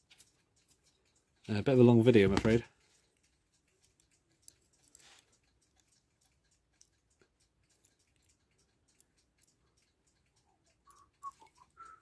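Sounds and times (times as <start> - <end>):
tweezers clicking on metal: 0.0 - 12.0.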